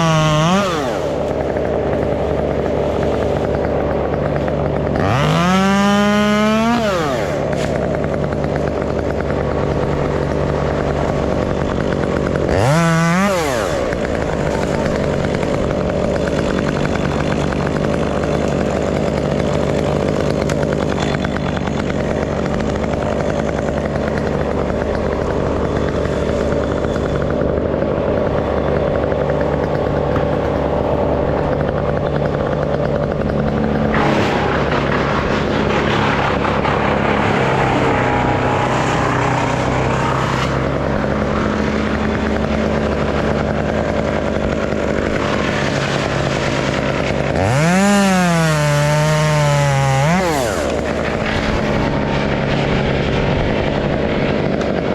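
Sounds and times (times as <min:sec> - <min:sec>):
chainsaw idling and revving: 0:00.0 - 0:54.9.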